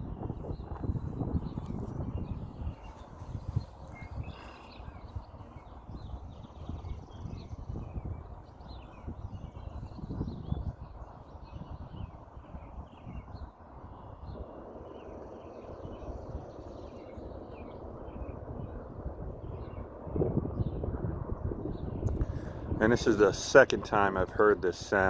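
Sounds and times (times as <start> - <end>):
small birds chirping: 0.1 - 25.0.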